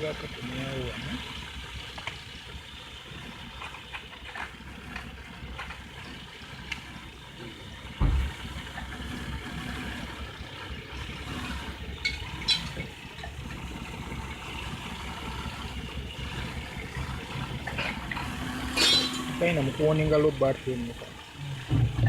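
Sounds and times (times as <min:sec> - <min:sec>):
car engine idling and misfiring: 0:00.0 - 0:22.0.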